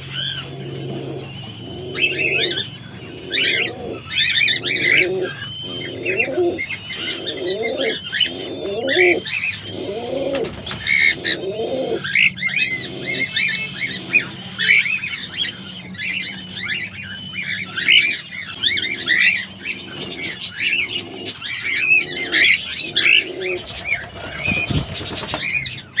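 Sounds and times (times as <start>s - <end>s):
cockatiels chirping: 0.0s - 26.0s
low repeating bird call: 0.0s - 26.0s.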